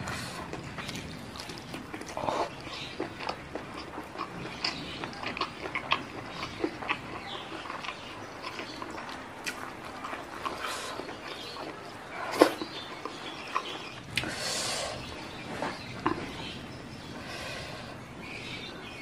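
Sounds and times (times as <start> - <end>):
person chewing food: 0.0 - 16.7.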